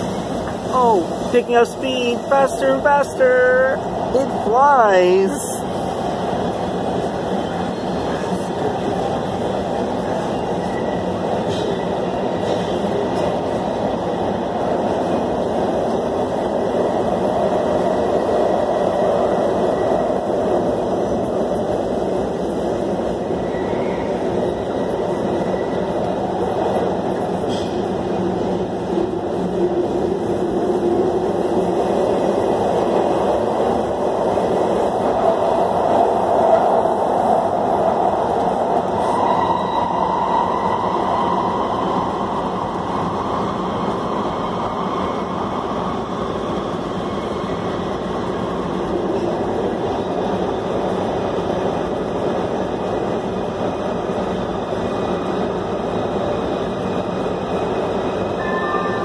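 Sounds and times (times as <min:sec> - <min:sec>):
subway train running in tunnel: 0:00.0 - 0:59.0.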